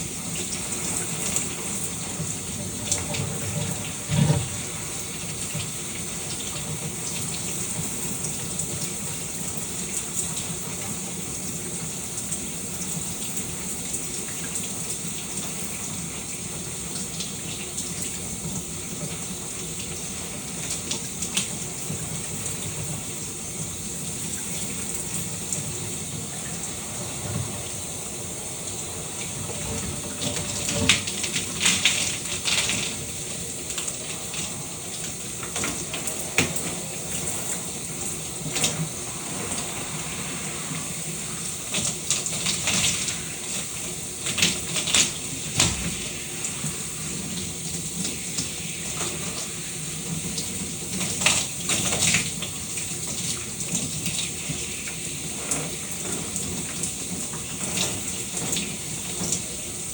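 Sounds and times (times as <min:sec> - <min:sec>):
shower water running: 0:00.0 - 0:59.9.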